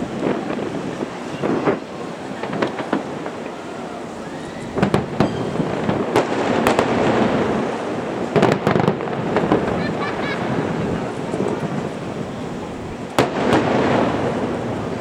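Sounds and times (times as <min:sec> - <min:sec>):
fireworks exploding: 0:00.0 - 0:15.0
fireworks rumble and crackle: 0:00.0 - 0:15.0.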